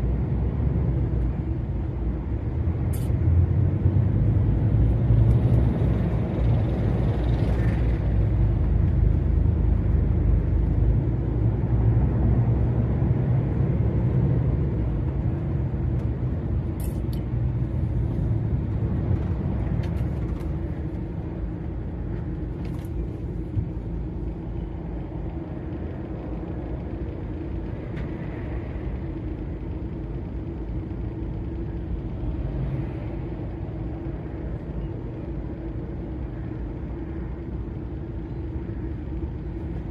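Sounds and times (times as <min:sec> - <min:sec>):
lorry engine and road noise: 0:00.0 - 0:39.9.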